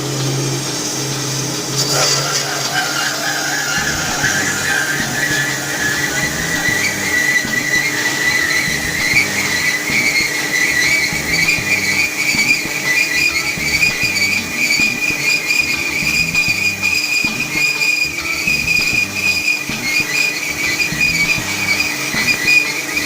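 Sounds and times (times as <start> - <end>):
band saw whining: 0.0 - 23.0.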